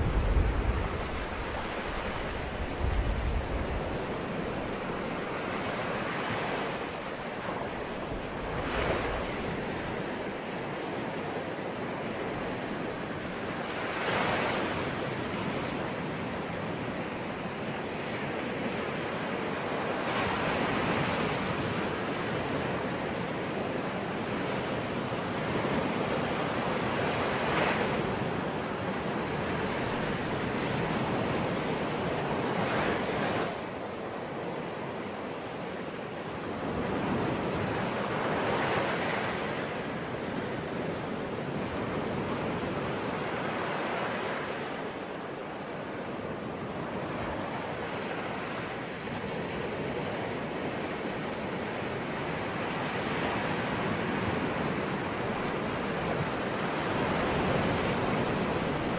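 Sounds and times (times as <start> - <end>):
ocean waves breaking: 0.0 - 58.9.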